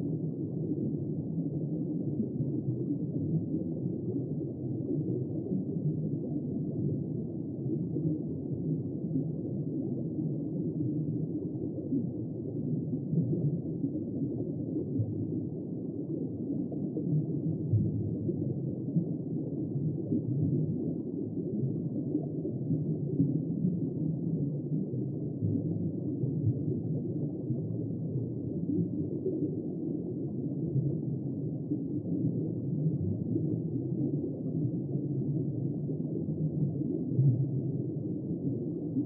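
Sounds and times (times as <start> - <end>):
muffled underwater rumble: 0.0 - 39.0.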